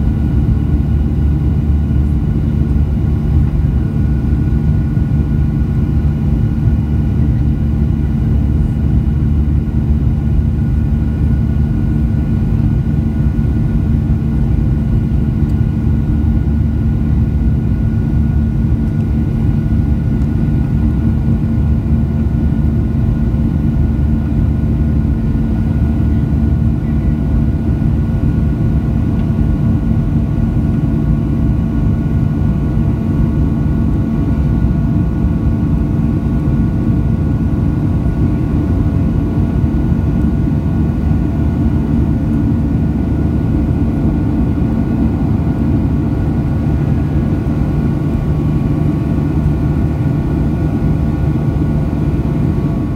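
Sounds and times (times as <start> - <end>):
jet engine cabin rumble: 0.0 - 52.9.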